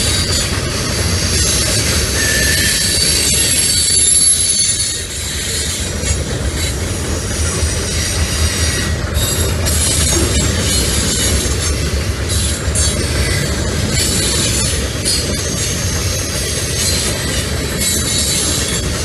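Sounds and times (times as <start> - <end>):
clacks over rail joints: 0.0 - 19.0
high wheel squeal: 0.0 - 19.0
steel wheels rumbling on rail: 0.0 - 19.0.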